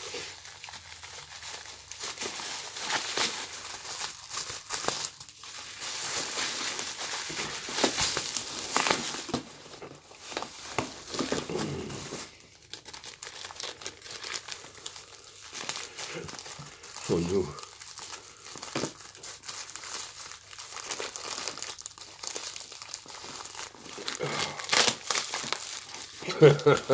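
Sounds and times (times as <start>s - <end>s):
bubble wrap crinkling: 0.0s - 26.9s.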